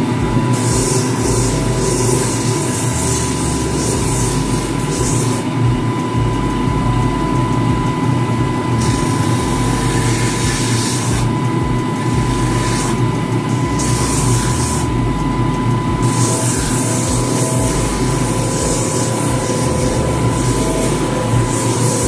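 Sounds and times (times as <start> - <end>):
sanding hiss on shoe: 0.0 - 22.0
sanding machine motor hum: 0.0 - 22.0.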